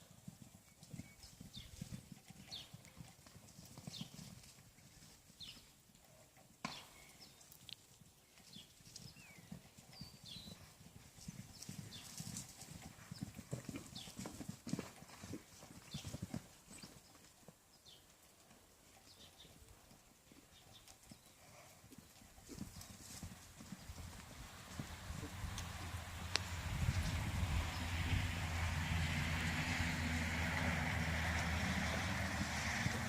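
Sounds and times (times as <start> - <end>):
horse hoofbeats: 0.0 - 7.4, 8.2 - 33.0.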